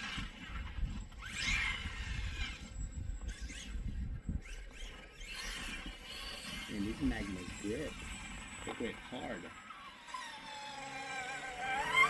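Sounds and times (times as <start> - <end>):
electric motor whining up: 0.0 - 12.0.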